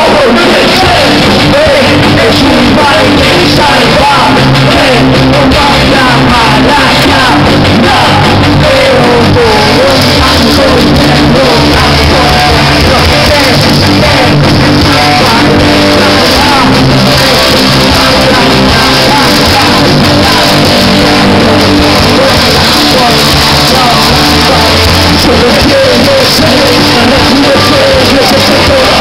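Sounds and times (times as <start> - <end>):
live rock band playing: 0.0 - 29.0
person singing: 0.0 - 29.0.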